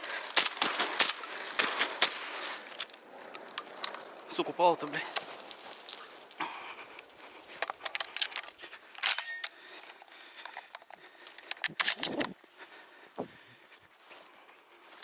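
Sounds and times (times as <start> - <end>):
handling noise clicks and rustles: 0.0 - 12.4.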